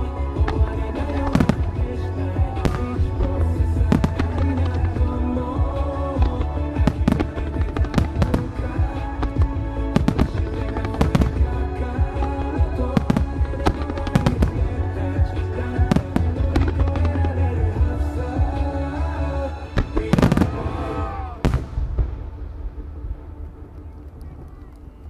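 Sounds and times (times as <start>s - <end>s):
fireworks bursting with sharp bangs: 0.0s - 19.0s, 19.6s - 22.9s
music: 0.0s - 25.0s.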